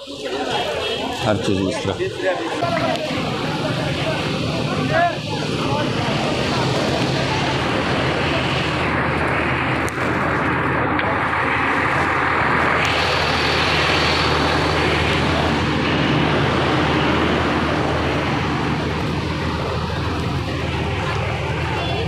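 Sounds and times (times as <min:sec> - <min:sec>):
street traffic noise: 0:00.0 - 0:22.0
vehicle engine humming: 0:00.0 - 0:22.0.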